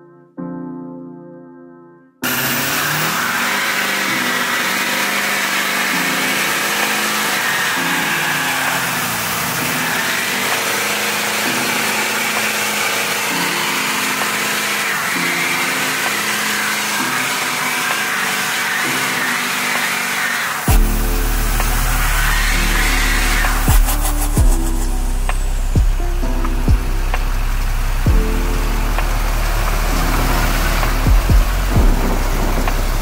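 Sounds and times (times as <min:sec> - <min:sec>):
tyres spinning on pavement: 0:02.2 - 0:24.6, 0:25.3 - 0:33.0
engine revving high: 0:02.2 - 0:33.0.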